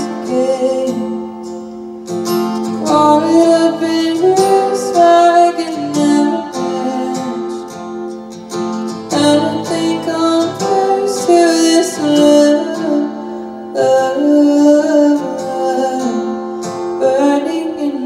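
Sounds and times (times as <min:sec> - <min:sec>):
woman singing: 0:00.0 - 0:01.3, 0:02.8 - 0:07.7, 0:09.1 - 0:18.0
strummed acoustic guitar: 0:00.0 - 0:18.0.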